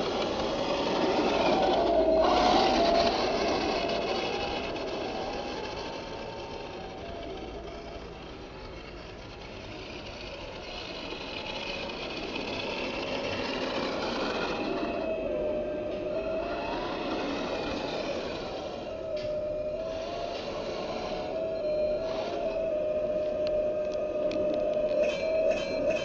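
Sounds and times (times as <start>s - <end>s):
toy tank motor whining: 0.0s - 26.0s.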